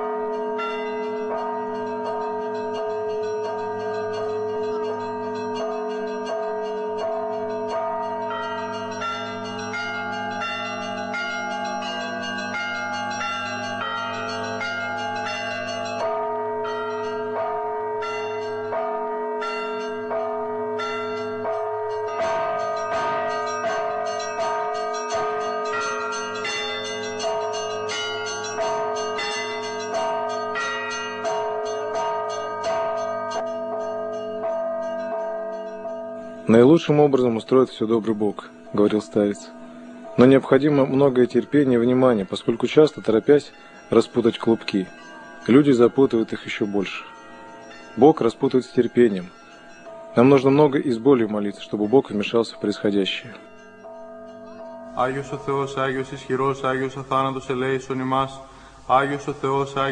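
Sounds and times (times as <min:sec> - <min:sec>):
church bells chiming: 0:00.0 - 0:59.9.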